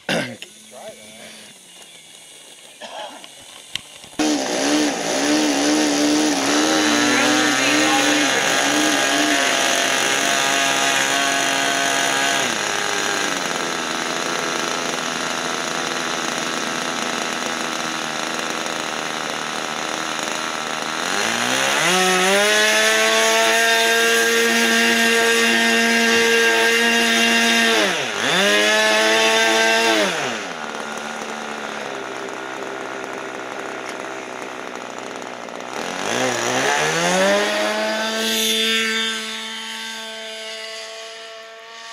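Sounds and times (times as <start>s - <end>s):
electric model plane motor whining: 0.4s - 41.9s.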